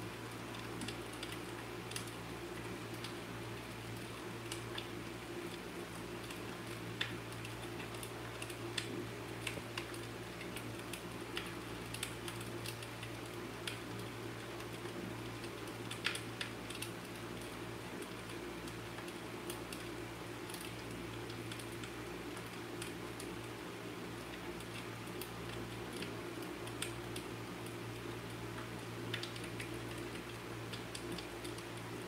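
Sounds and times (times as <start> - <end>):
fireplace crackling: 0.0 - 32.0.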